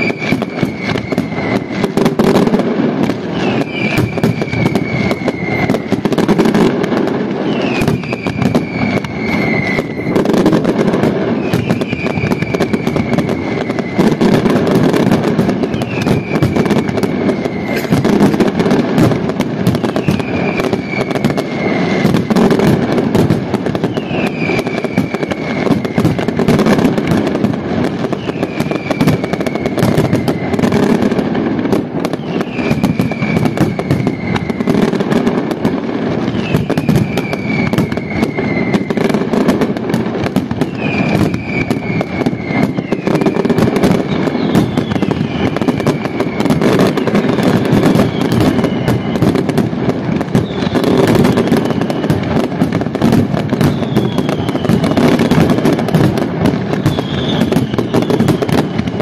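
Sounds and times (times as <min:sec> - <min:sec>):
fireworks booming and crackling: 0:00.0 - 0:59.0
fireworks whistling: 0:00.0 - 0:59.0.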